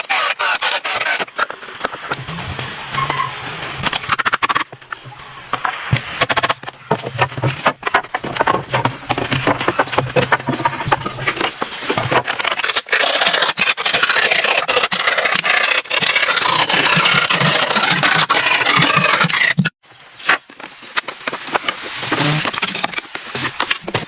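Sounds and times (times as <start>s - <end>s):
tool scraping wood: 0.0s - 19.8s.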